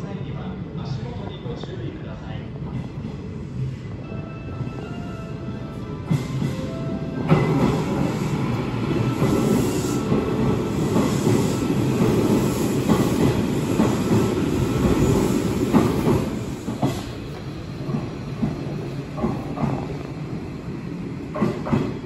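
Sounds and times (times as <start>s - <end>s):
electric train rumbling with wheel clatter: 0.0s - 22.0s.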